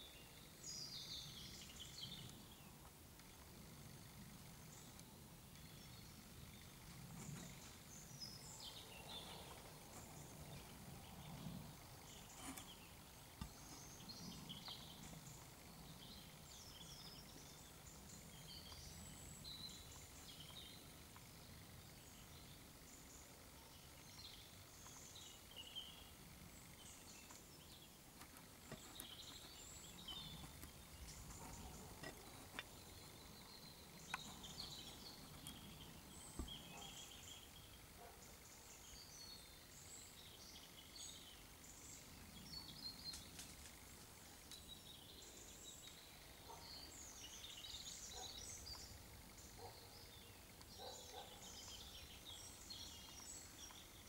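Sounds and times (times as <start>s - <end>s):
distant bird chirps: 0.0s - 54.0s.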